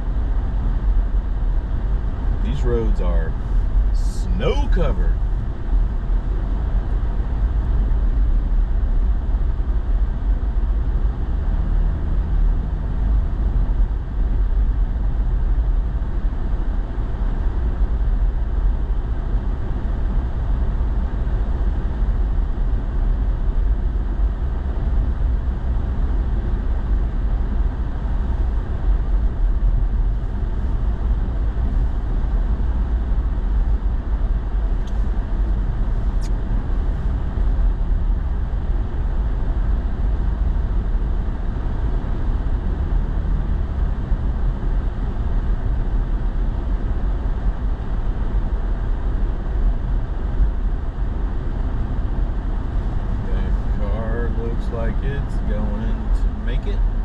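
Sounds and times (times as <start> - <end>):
truck engine and tyres rumbling: 0.0 - 57.0.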